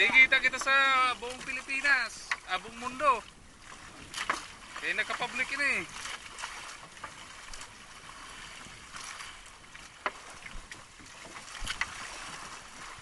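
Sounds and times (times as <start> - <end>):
boat knocking: 0.0 - 13.0
water and wind hiss: 0.0 - 13.0.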